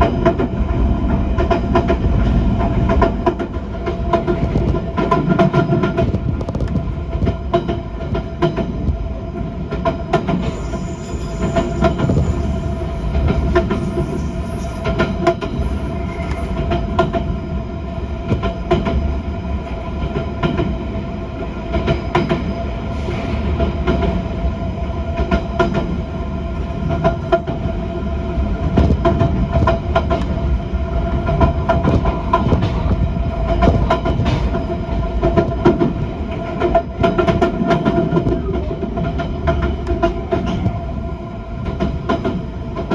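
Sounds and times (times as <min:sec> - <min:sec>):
train interior rumble: 0:00.0 - 0:42.9.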